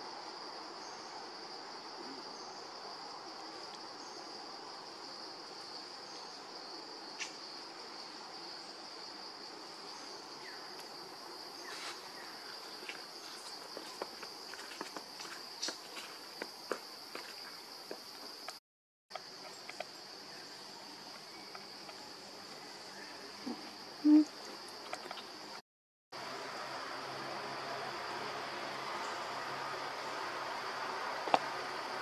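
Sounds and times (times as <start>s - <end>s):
insects droning: 0.0s - 25.6s, 26.2s - 32.0s.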